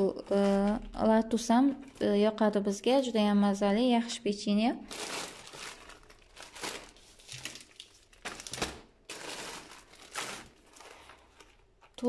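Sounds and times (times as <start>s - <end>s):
plastic packaging crinkling: 0.0s - 2.6s, 4.8s - 12.0s.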